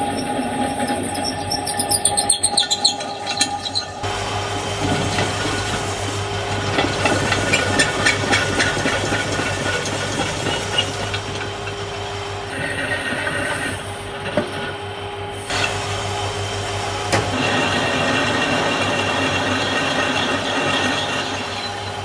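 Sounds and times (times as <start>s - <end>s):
workshop machine humming: 0.0s - 22.0s.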